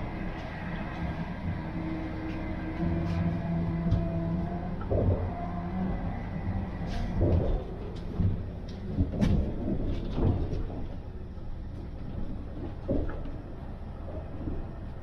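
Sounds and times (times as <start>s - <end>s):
train rumbling from inside carriage: 0.0s - 15.0s.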